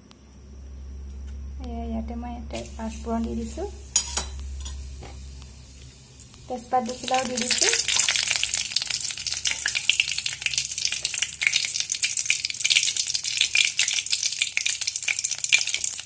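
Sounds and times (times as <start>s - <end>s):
spices sizzling in hot oil: 2.6s - 16.0s.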